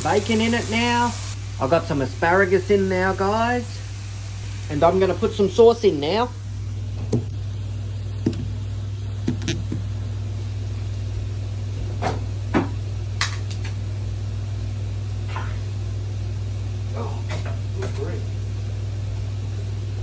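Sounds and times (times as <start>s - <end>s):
low hum with faint hiss: 0.0s - 20.0s.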